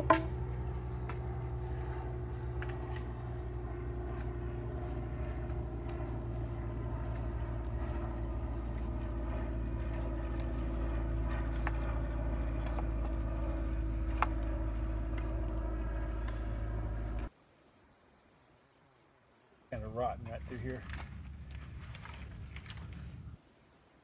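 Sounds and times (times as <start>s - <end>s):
low engine drone: 0.0s - 17.3s, 19.8s - 23.4s.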